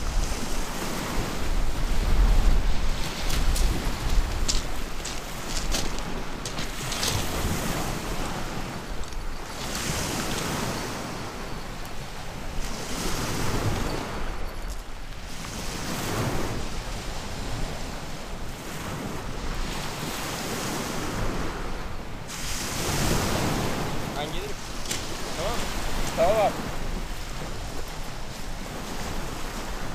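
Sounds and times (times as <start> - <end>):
waves breaking on pebble beach: 0.0 - 29.9.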